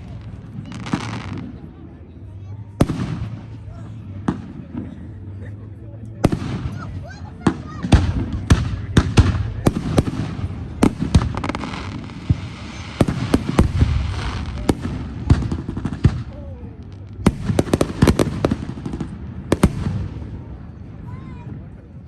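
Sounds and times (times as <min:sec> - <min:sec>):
fireworks bangs: 0:00.0 - 0:01.7, 0:02.8 - 0:04.8, 0:06.2 - 0:20.8.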